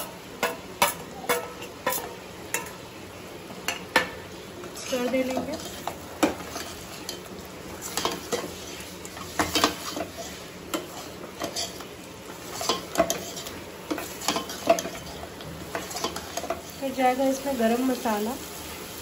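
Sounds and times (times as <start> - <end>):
ladle clinking and scraping pot: 0.0 - 2.8, 3.7 - 16.8
curry sizzling softly: 0.0 - 19.0.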